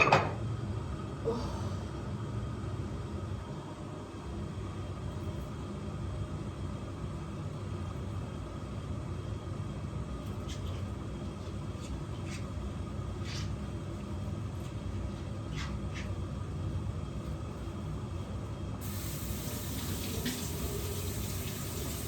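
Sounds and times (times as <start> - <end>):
low rumble of water heating: 0.0 - 22.0.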